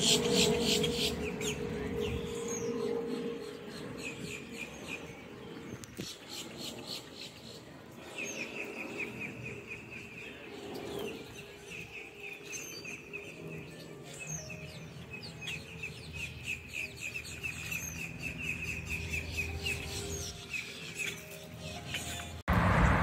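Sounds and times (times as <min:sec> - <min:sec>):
birds chirping in trills: 0:00.0 - 0:22.4.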